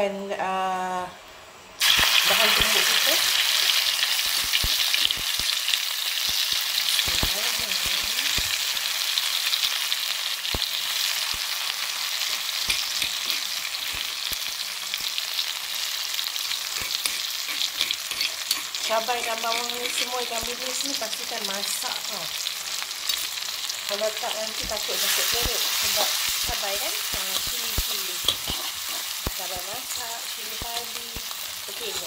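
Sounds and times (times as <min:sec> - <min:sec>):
paste sizzling in hot oil: 0:01.8 - 0:32.0.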